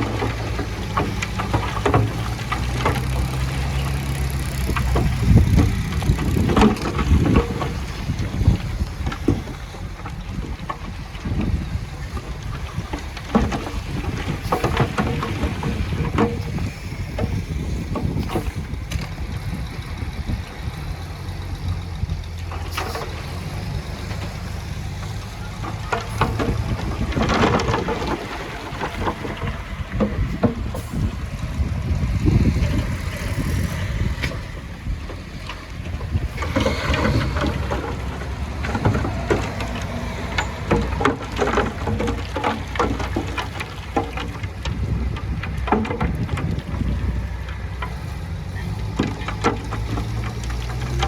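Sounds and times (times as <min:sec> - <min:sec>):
diesel engine running: 0:00.0 - 0:51.0
metal and rock clanking: 0:00.0 - 0:51.0.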